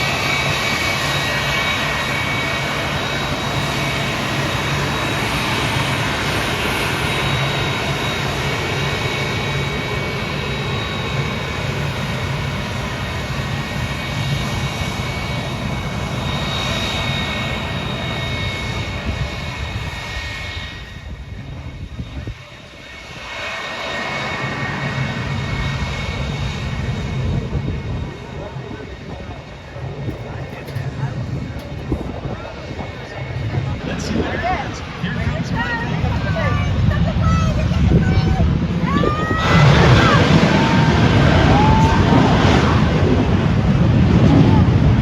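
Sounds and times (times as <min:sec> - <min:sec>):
airplane engine: 0:00.0 - 0:45.0
jet engine whine: 0:00.0 - 0:45.0.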